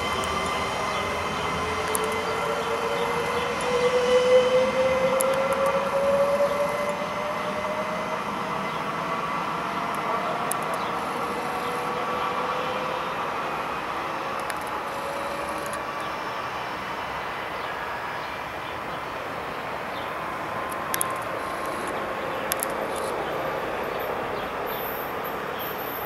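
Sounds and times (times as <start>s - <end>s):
electric train motors whining: 0.0s - 26.0s
wheels rumbling on rails: 0.0s - 26.0s.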